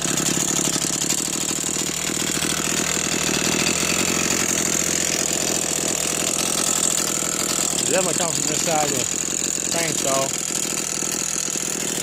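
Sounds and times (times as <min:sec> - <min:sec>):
chainsaw idling: 0:00.0 - 0:12.0
rattling from chainsaw: 0:00.0 - 0:12.0.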